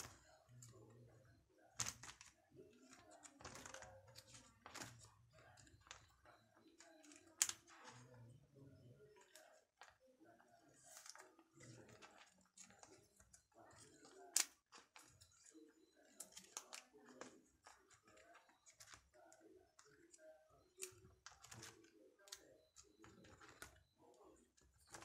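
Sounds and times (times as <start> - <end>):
plastic sleeves rustling: 0.0 - 25.0.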